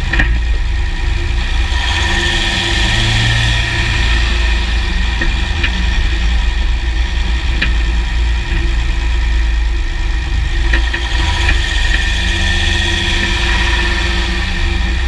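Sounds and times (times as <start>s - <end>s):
engine and drivetrain drone: 0.0s - 15.0s
sharp drivetrain clicks: 0.0s - 15.0s.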